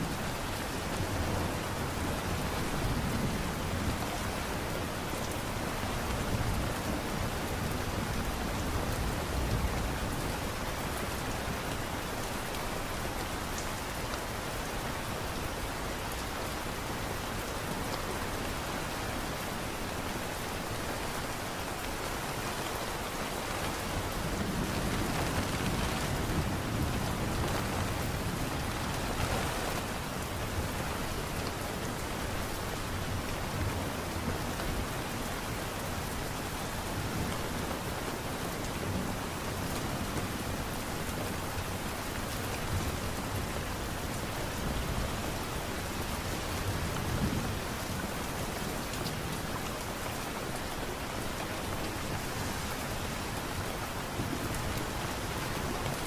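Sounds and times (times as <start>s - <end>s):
light rain pattering: 0.0s - 56.0s.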